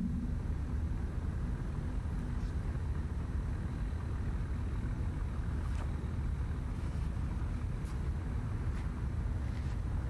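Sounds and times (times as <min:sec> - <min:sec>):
distant traffic rumble: 0:00.0 - 0:10.0
faint steady hum: 0:00.0 - 0:10.0.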